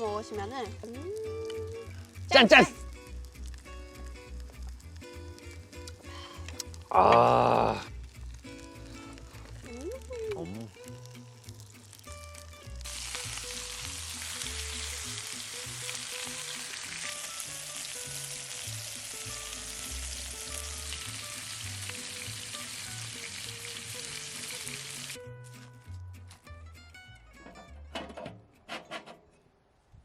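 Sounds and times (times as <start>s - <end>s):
food sizzling and crackling: 0.0s - 26.4s
soft background music: 0.0s - 28.1s.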